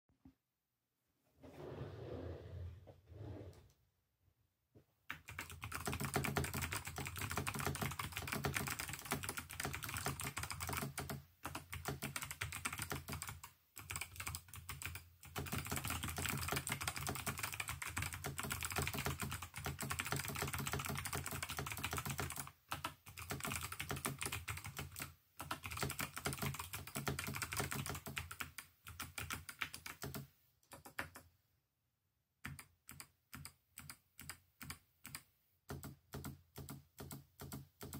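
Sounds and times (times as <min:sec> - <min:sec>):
mechanical keyboard typing: 0:05.1 - 0:31.3, 0:32.4 - 0:37.9.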